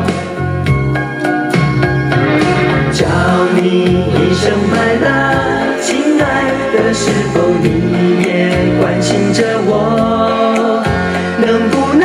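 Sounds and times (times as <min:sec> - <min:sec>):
pop ballad from cassette tape: 0:00.0 - 0:12.0.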